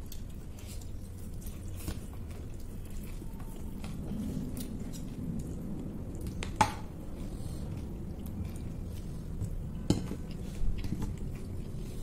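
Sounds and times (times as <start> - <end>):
chewing and squishing food: 0.0 - 12.0.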